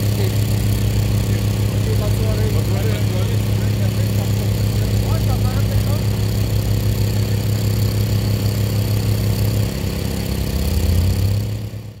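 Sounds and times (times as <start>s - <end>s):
fire truck engine droning: 0.0s - 12.0s.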